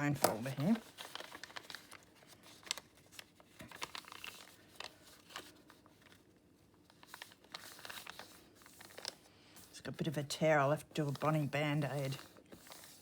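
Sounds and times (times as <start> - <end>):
paper rustling: 0.0 - 9.8, 11.0 - 13.0.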